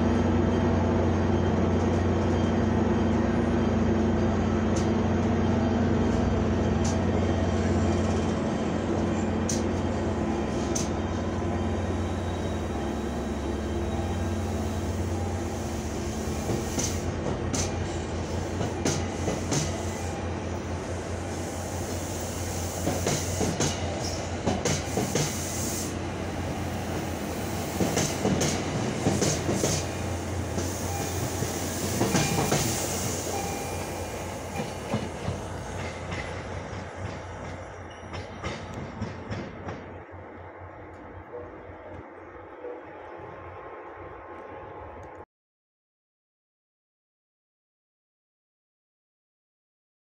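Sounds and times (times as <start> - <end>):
train rumble: 0.0 - 45.2.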